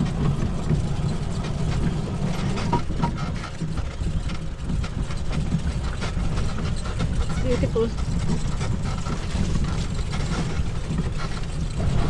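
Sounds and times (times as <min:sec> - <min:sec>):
knocks and rattles: 0:00.0 - 0:12.0
tyres rumbling on dirt track: 0:00.0 - 0:12.0.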